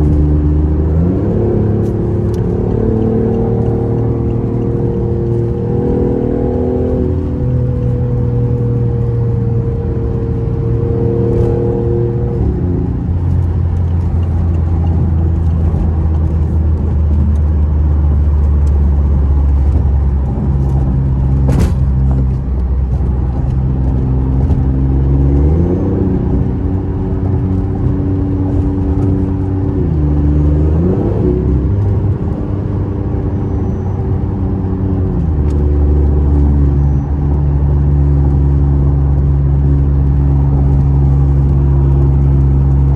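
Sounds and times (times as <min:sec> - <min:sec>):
car engine at speed: 0:00.0 - 0:42.9.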